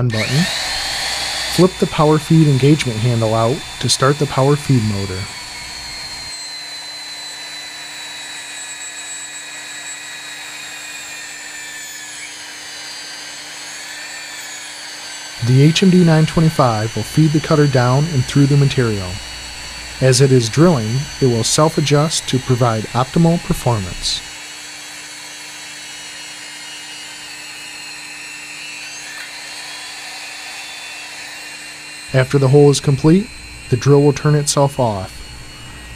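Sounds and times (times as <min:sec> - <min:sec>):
magnetic drill motor whine: 0:00.0 - 0:35.9.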